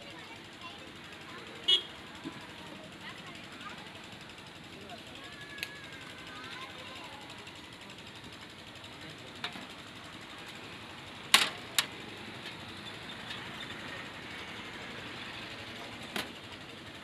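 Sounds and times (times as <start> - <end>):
street food stall background: 0.0 - 17.0.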